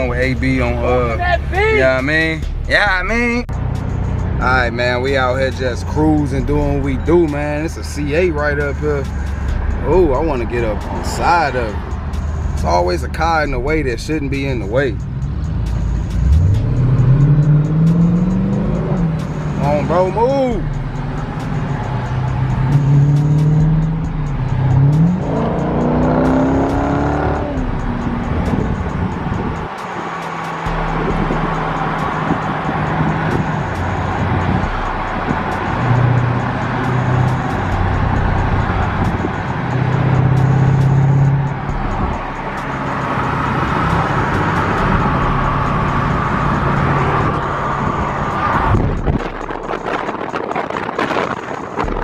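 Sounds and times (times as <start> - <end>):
car engine accelerating: 0.0 - 52.0
rising engine whine: 0.0 - 52.0.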